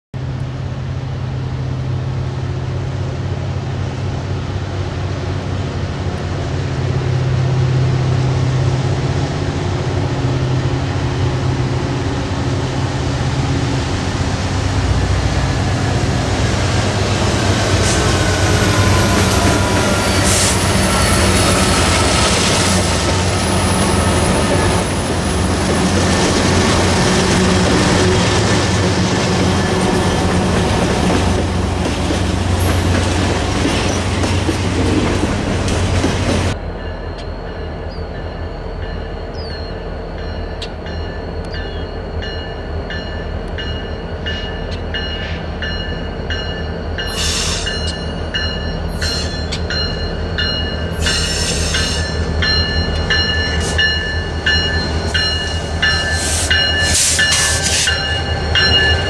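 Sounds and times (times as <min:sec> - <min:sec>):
diesel locomotive engines droning: 0:00.2 - 0:59.0.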